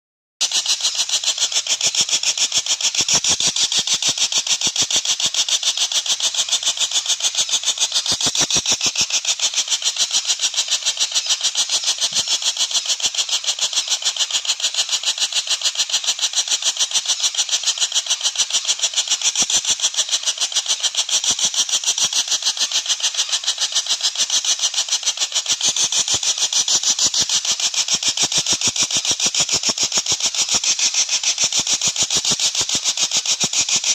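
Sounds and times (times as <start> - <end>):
woodpecker rattling call: 0.4 - 33.9.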